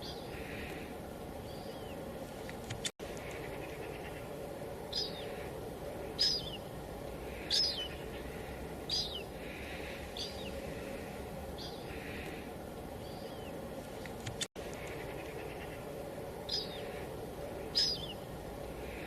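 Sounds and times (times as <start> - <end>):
bird chirping: 0.0 - 0.8, 1.4 - 2.1, 2.7 - 19.0.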